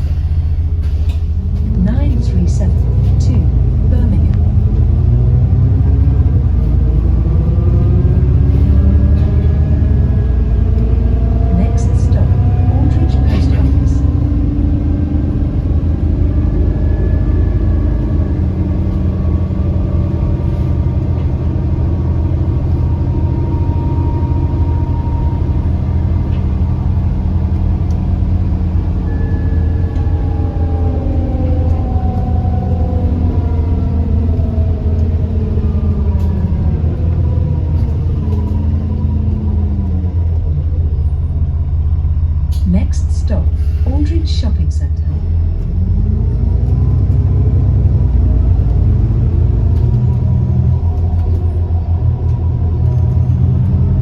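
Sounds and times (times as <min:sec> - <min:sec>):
axle and turbo whine: 0:00.0 - 0:54.0
bus engine rumble: 0:00.0 - 0:54.0.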